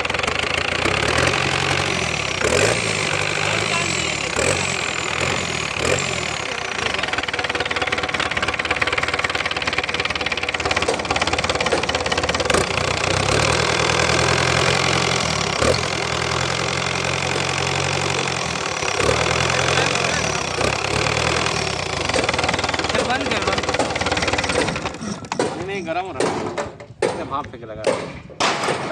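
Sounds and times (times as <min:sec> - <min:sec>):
truck engine idling with rattle: 0:00.0 - 0:28.9.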